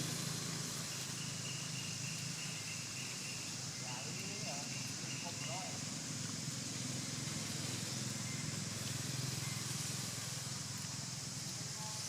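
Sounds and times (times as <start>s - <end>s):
high even hiss: 0.0s - 12.0s.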